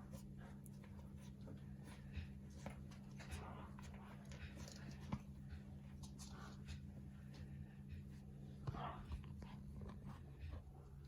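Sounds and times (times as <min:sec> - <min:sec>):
puppies scratching and rustling: 0:00.0 - 0:11.0.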